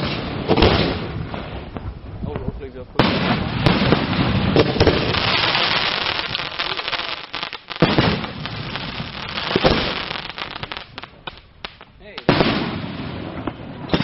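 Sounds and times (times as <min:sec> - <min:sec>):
fireworks bursting: 0:00.0 - 0:14.0
fireworks crackling hiss: 0:00.0 - 0:14.0.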